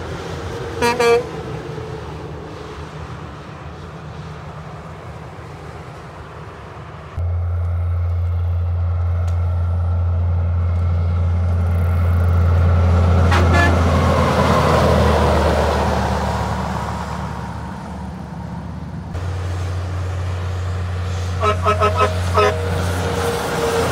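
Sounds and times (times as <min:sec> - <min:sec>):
heavy truck passing: 0:00.0 - 0:23.9.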